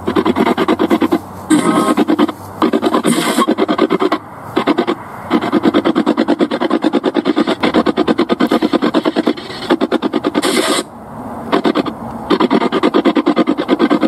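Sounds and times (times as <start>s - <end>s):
choppy radio static bursts: 0.0s - 14.0s.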